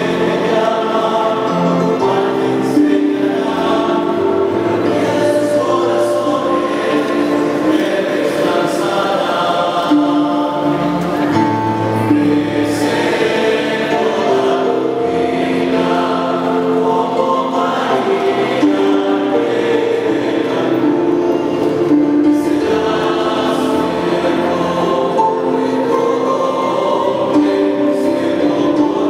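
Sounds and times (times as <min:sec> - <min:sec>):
choir singing a hymn: 0:00.0 - 0:29.0.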